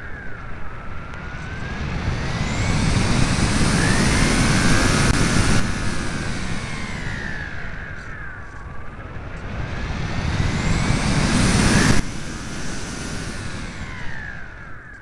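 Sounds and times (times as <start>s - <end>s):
electric motor whine: 0.0s - 15.0s
rushing airflow noise: 0.0s - 15.0s.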